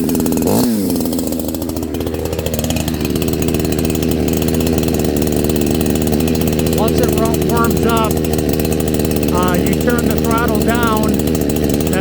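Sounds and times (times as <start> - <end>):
chainsaw idling: 0.0 - 12.0.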